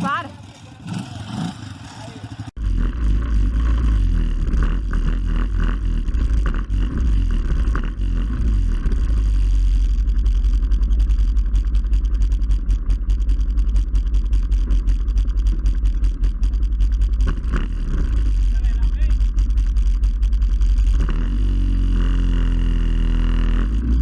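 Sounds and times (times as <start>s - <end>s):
fast choppy pulsing with ticking: 0.0s - 24.0s
off-road vehicle engine rumbling: 0.0s - 24.0s.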